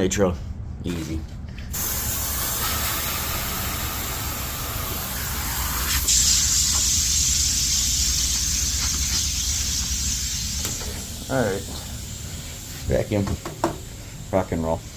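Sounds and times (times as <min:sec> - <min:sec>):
gas hissing from hose: 0:01.7 - 0:14.8.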